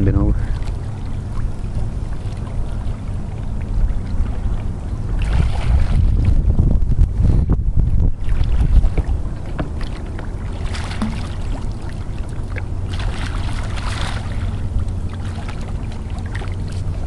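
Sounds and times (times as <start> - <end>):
water splashes: 0.0 - 7.0, 7.8 - 17.0
wind buffeting microphone: 0.0 - 17.0.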